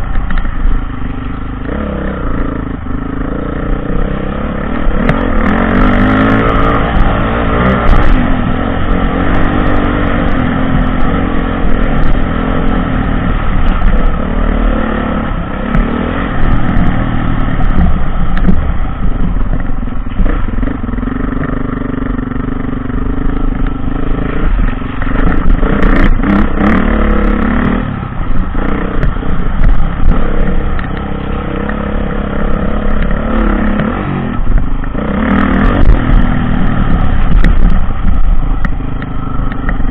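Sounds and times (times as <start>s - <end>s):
dirt bike engine revving: 1.6s - 38.6s.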